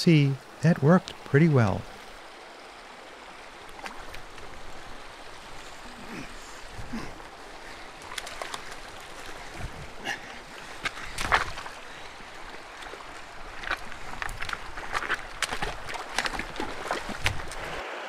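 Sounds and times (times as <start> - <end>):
creek rushing over rocks: 0.0 - 18.0.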